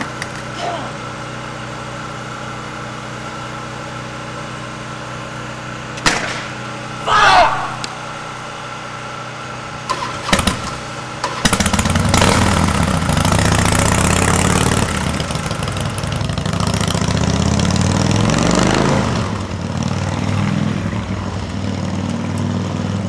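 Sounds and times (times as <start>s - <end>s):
motorcycle engine revving: 0.6s - 23.0s.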